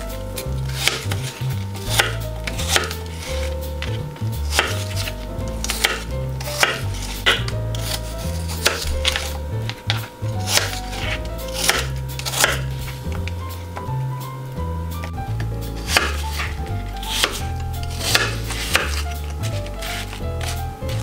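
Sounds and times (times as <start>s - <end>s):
soft background music: 0.0s - 21.0s
knife chopping on plastic board: 0.4s - 13.9s, 15.0s - 21.0s.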